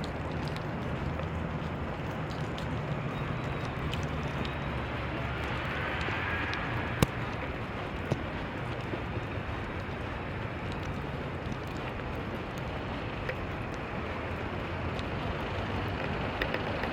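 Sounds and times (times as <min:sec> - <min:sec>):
road traffic: 0:00.0 - 0:16.9.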